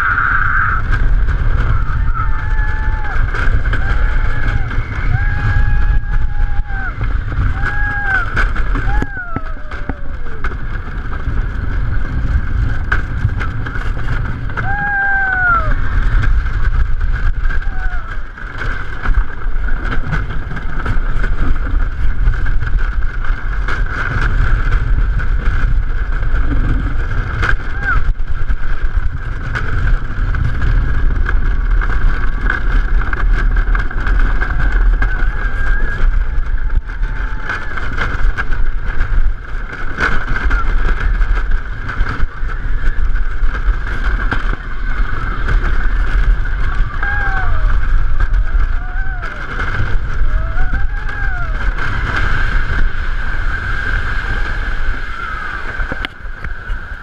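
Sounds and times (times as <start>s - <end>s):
roller coaster rumbling and rattling: 0.0s - 57.0s
wind buffeting microphone: 0.0s - 57.0s.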